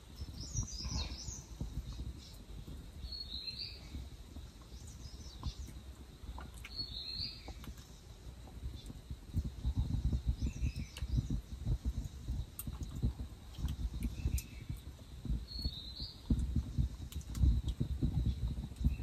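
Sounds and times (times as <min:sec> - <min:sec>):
birds chirping: 0:00.0 - 0:19.0
low rumbling background noise: 0:00.0 - 0:19.0.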